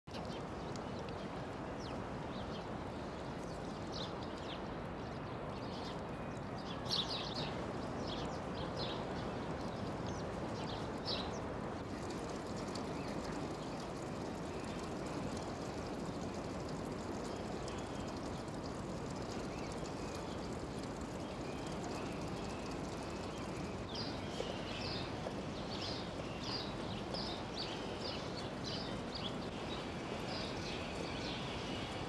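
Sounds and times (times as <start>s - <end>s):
birds chirping: 0.1s - 32.0s
steady background noise: 0.1s - 32.0s.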